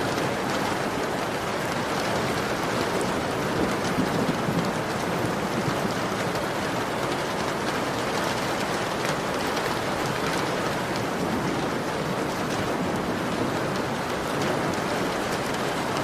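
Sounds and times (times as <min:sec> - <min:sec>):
heavy rain on a window: 0:00.0 - 0:16.0.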